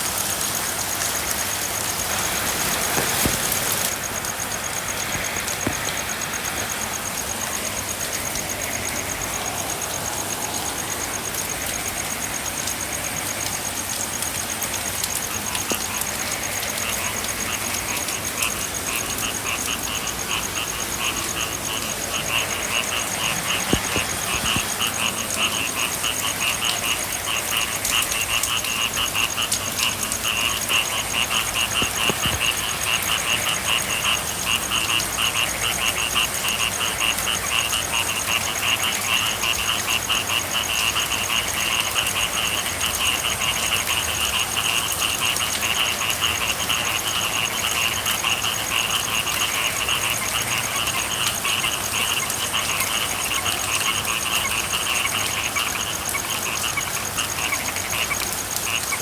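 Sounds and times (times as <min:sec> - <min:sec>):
frogs trilling: 0:00.0 - 0:59.0
rain hiss: 0:00.0 - 0:59.0.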